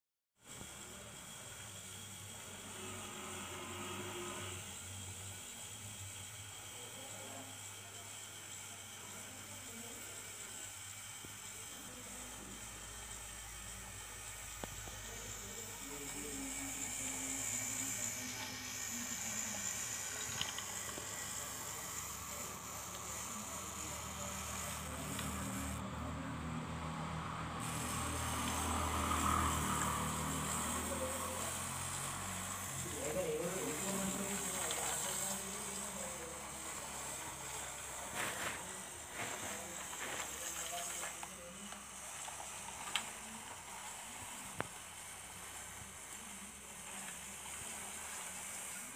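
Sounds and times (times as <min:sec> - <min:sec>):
toy train motor whirring: 0:00.4 - 0:48.9.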